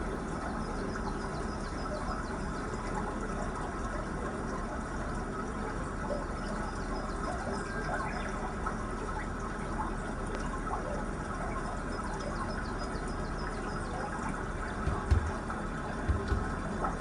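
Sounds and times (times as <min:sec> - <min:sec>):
running water trickling: 0:00.0 - 0:17.0.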